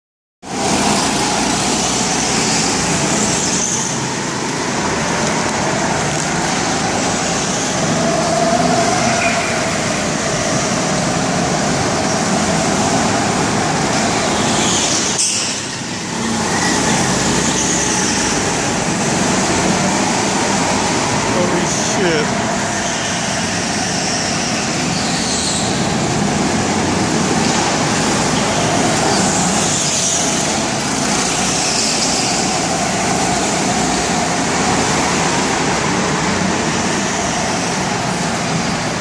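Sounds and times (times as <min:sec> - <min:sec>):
go-kart motor drone: 0:00.5 - 0:21.8, 0:22.8 - 0:38.8.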